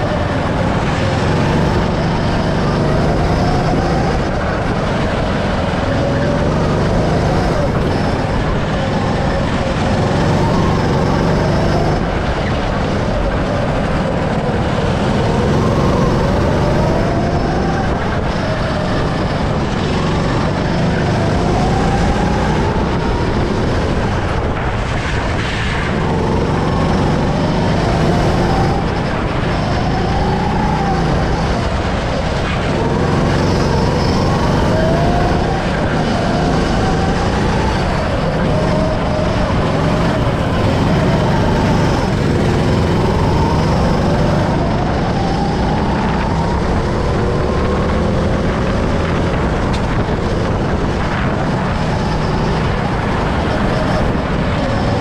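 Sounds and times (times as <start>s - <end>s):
go-kart motor revving: 0.0s - 25.3s, 25.9s - 55.0s
wind rush: 0.0s - 55.0s.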